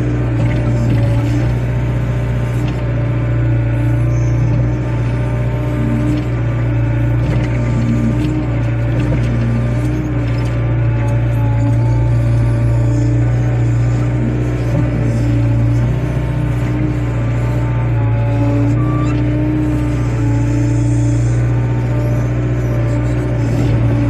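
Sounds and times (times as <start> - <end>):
excavator diesel engine: 0.0 - 24.0
hydraulic whine: 0.0 - 24.0.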